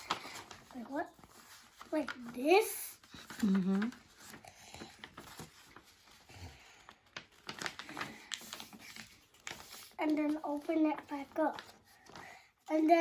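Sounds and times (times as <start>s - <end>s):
paper folding and creasing: 0.0s - 13.0s.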